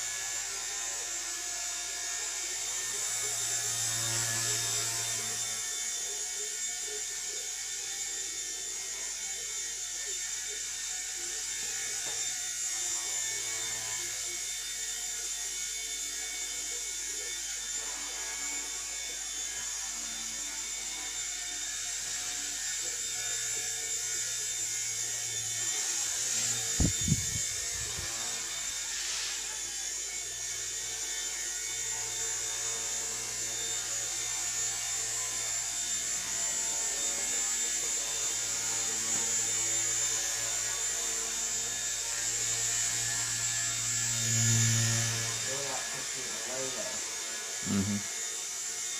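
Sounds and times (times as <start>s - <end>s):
rc helicopter motor whine: 0.0s - 48.9s.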